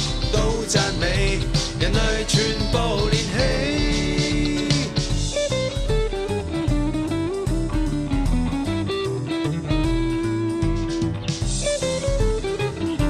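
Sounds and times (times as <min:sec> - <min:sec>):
bass and drums beat: 0:00.0 - 0:13.0
guitar lead melody: 0:00.0 - 0:13.0.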